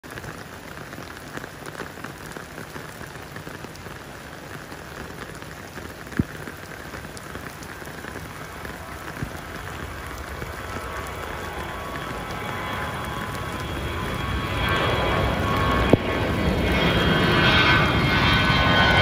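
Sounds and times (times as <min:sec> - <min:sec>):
rain pattering on surfaces: 0:00.0 - 0:19.0.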